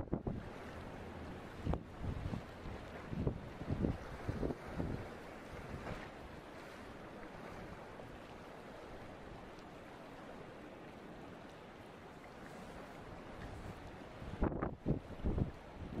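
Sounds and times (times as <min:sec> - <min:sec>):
choppy sea washing: 0:00.0 - 0:16.0
wind: 0:00.0 - 0:16.0.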